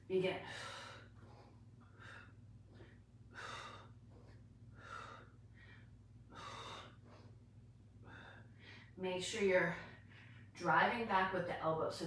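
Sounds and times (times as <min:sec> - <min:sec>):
woman breathing heavily: 0:00.4 - 0:10.6.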